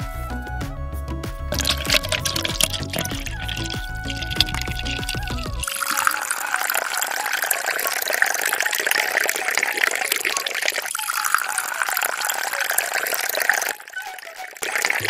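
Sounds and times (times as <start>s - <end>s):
water pouring into metal pot: 1.6s - 15.0s.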